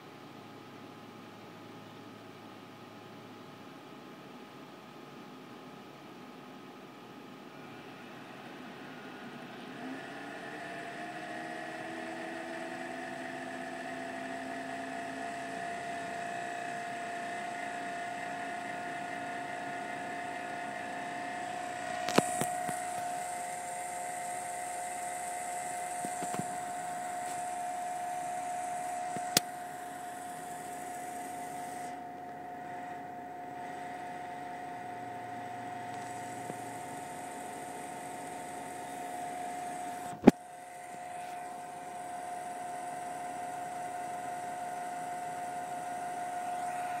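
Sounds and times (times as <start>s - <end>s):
cooling fan hiss: 5.4s - 47.0s
graphics card whining: 7.6s - 47.0s.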